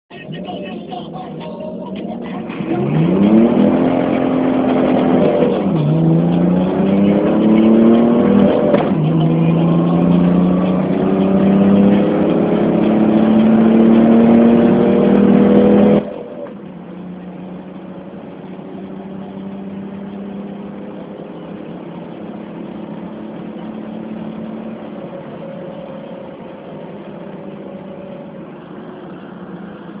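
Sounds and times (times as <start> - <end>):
diesel engine accelerating: 0.1 - 30.0.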